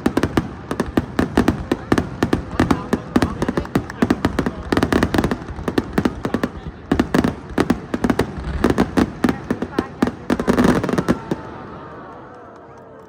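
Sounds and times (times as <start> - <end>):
fireworks bangs and crackles: 0.0 - 12.4.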